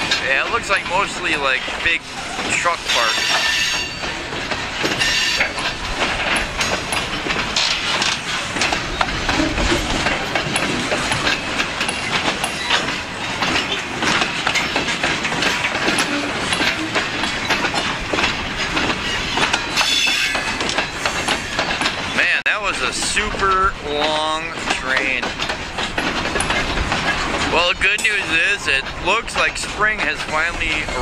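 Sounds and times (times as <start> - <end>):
train wheels rumbling on rails: 0.0 - 31.0
wheels clanking over rail joints: 0.0 - 31.0.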